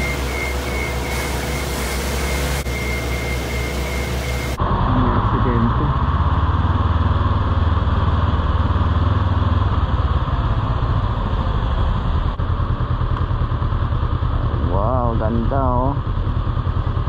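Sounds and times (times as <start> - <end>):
motorcycle engine running steadily: 2.8 - 17.0.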